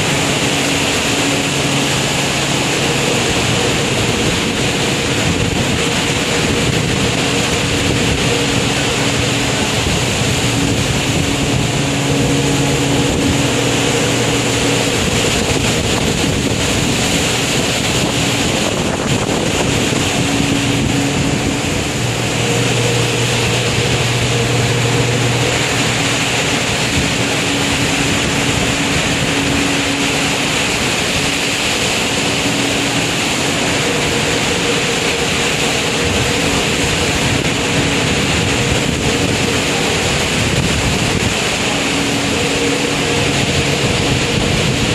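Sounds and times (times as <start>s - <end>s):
low steady hum: 0.0s - 44.9s
storm wind and heavy sea: 0.0s - 44.9s
wind buffeting microphone: 0.0s - 44.9s.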